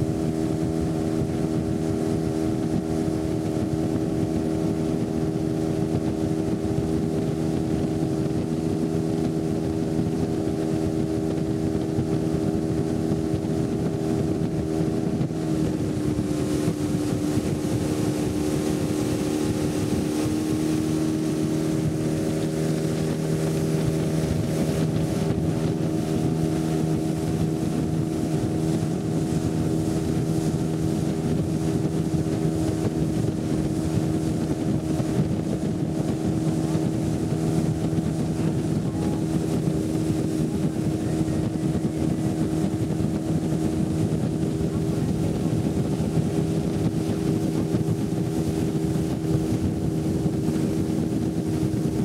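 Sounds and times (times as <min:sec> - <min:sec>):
motorboat engine running: 0:00.0 - 0:52.0.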